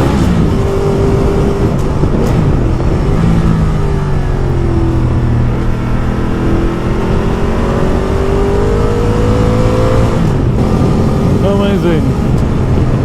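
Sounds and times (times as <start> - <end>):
motorcycle engine accelerating: 0.0 - 13.0
wind and road noise: 0.0 - 13.0.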